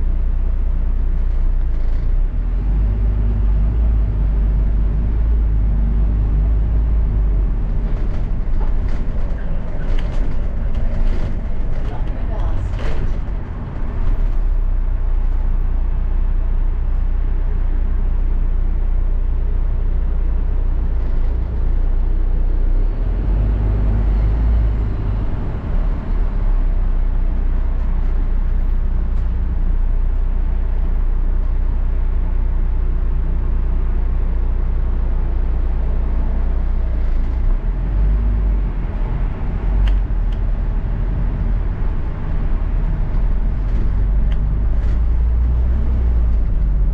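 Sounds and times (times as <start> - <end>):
bus engine and road rumble: 0.0 - 46.9.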